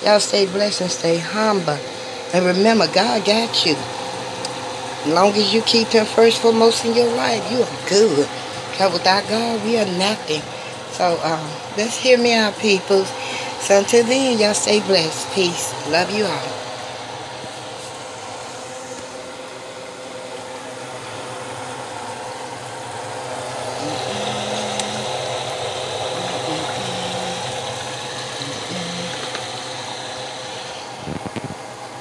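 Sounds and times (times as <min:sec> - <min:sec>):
mechanical hum with held tones: 0:00.0 - 0:32.0.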